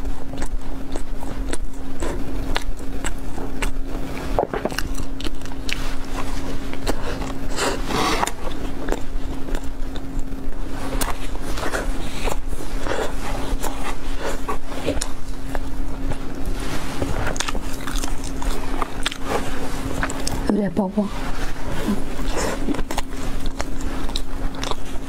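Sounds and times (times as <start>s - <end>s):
chewing with wet mouth clicks: 0.0s - 20.4s, 22.0s - 25.0s
faint steady hum: 0.0s - 25.0s.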